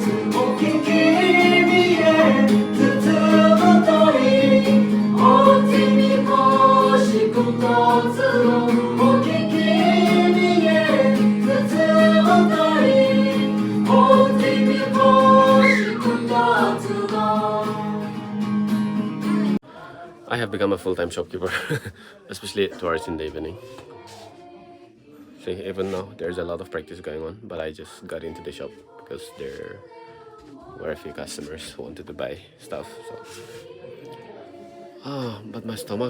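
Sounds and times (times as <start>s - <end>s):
group singing in harmony: 0.0s - 18.4s, 19.4s - 20.3s, 23.4s - 27.0s, 28.1s - 31.7s, 32.6s - 35.1s.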